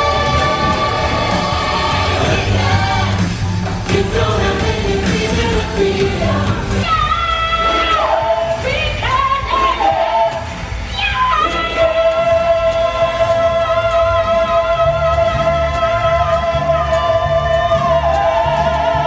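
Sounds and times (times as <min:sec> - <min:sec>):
pop track with steady beat: 0:00.0 - 0:19.0.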